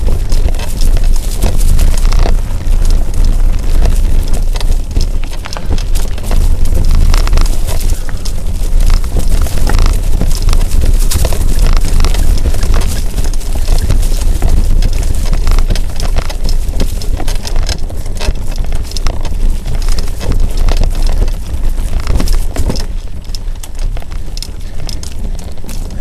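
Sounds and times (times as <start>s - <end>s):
tyres clicking over leaves and roots: 0.0s - 26.0s
wind rumble on microphone: 0.0s - 26.0s.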